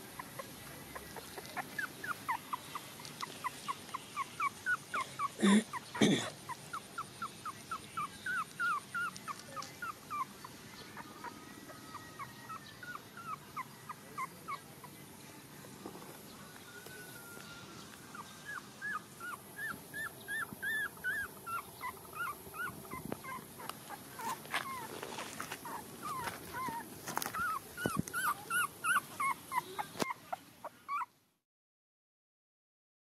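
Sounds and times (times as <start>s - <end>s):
puppies whimpering: 0.0s - 16.0s, 16.6s - 31.2s.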